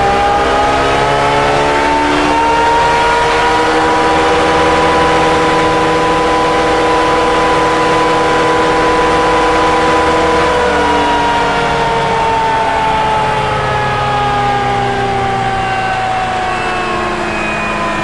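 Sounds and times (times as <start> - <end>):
scooter engine at full throttle: 0.0 - 18.0.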